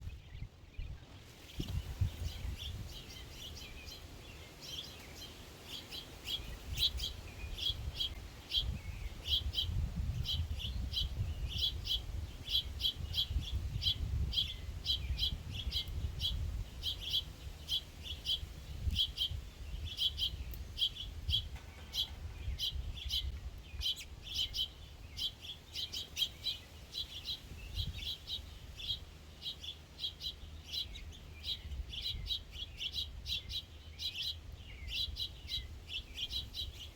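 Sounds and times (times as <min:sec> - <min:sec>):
small songbirds chirping: 0:00.0 - 0:36.9.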